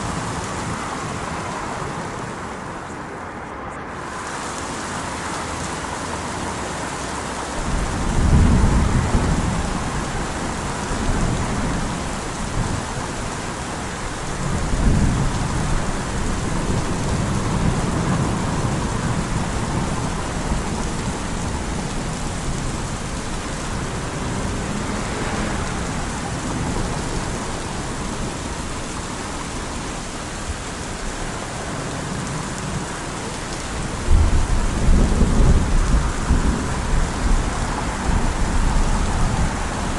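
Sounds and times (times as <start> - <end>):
steady rain: 0.0 - 39.9
rolling thunder: 7.6 - 39.9.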